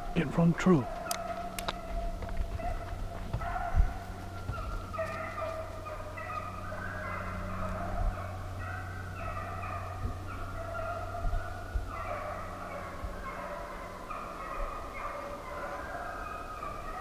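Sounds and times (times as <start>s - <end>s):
hounds baying: 0.0s - 17.0s
low steady hum: 0.0s - 17.0s.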